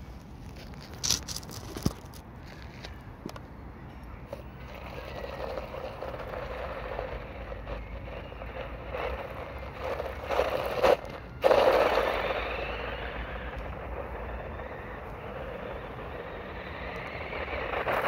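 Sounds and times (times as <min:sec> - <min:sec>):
tyres crunching through gravel: 0:00.0 - 0:03.0, 0:04.4 - 0:18.0.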